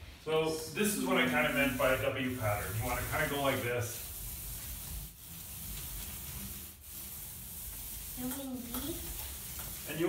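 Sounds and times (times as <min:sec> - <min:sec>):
paint roller rolling on wall: 0:00.4 - 0:10.0.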